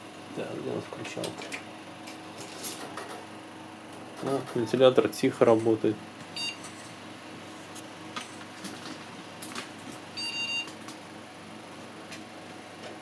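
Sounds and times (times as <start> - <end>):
computer fan humming: 0.0 - 13.0.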